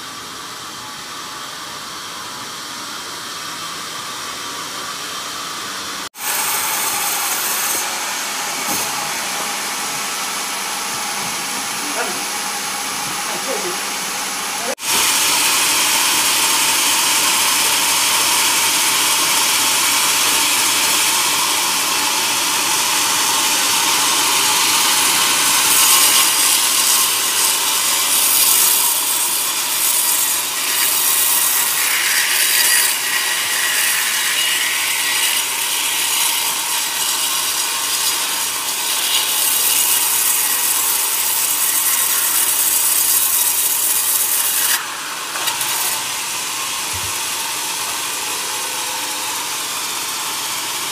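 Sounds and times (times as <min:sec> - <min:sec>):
band saw cutting wood: 0:06.0 - 0:50.9.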